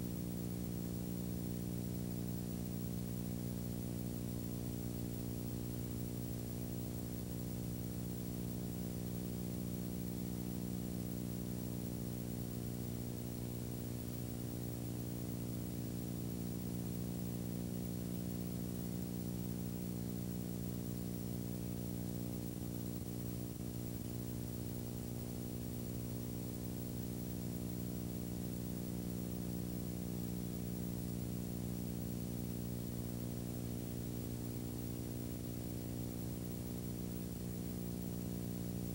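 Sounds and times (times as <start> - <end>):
electrical hum: 0.0 - 38.9.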